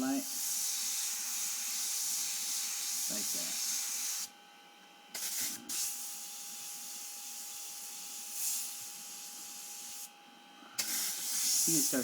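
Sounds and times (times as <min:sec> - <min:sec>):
airbrush spraying hiss: 0:00.2 - 0:04.3, 0:05.2 - 0:10.1, 0:10.8 - 0:12.0.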